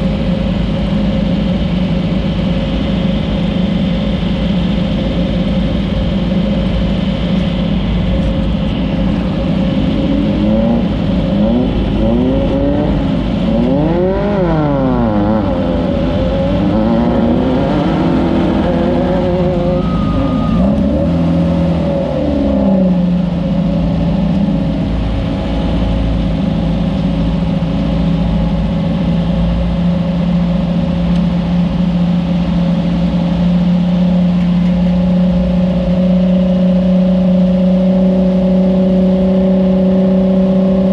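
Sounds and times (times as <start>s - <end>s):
race car engine revving: 0.0s - 40.9s.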